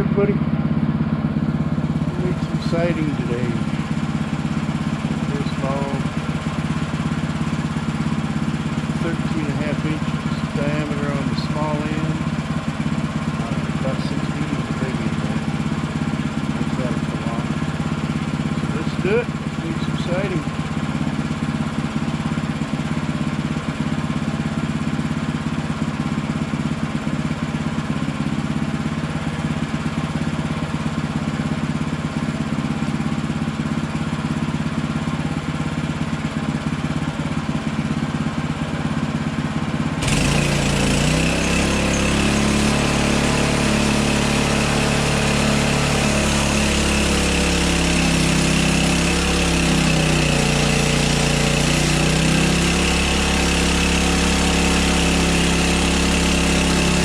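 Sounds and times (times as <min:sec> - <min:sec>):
gas engine running: 0:00.0 - 0:57.0.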